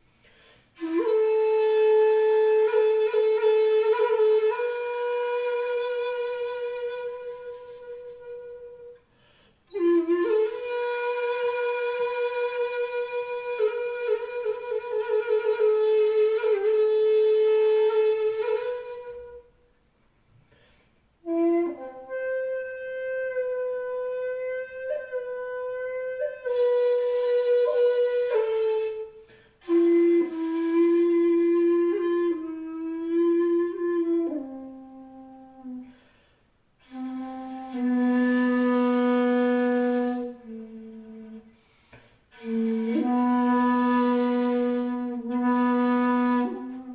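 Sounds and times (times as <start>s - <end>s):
bamboo flute long held notes: 0.8s - 9.1s, 9.7s - 19.6s, 21.2s - 36.2s, 36.8s - 46.9s.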